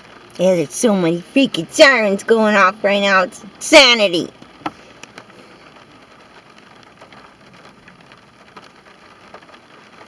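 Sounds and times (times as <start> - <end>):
rain on a car: 0.0 - 10.0
raindrop ticks: 0.0 - 10.0.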